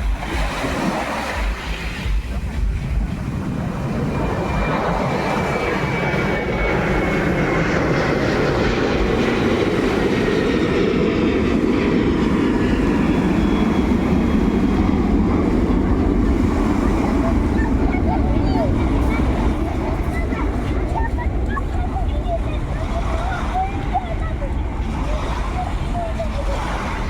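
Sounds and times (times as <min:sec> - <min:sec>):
engine drone: 0:00.0 - 0:27.0.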